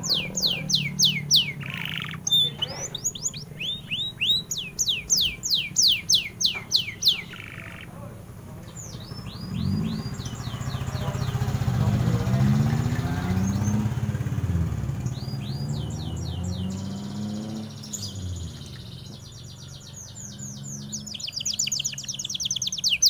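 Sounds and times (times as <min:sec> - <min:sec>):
low engine sound: 0:00.0 - 0:22.8
canary singing: 0:00.0 - 0:23.0.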